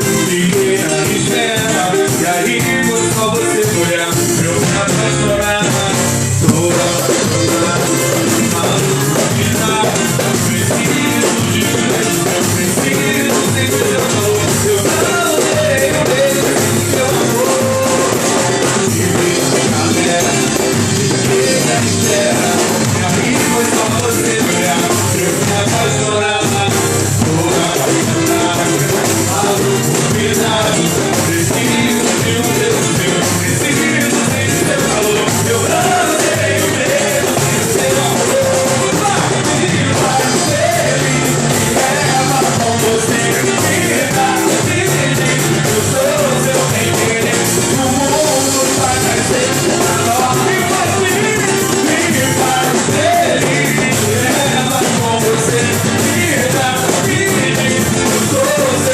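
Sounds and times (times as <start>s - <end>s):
live band playing swing: 0.0s - 58.9s
person singing: 0.0s - 58.9s.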